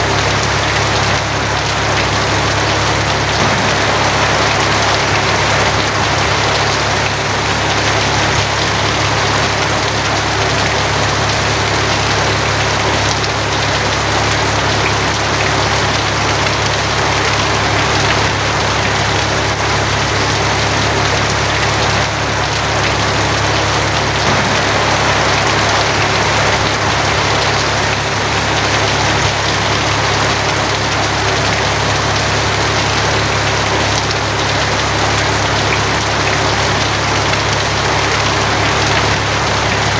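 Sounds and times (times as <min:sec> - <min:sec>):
continuous low rumble: 0:00.0 - 0:39.9
heavy rain on a tin roof: 0:00.0 - 0:39.9.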